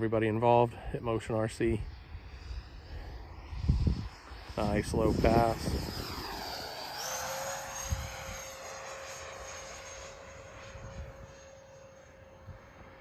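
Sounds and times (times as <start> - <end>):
electric ducted fan jet whining: 0.0 - 13.0.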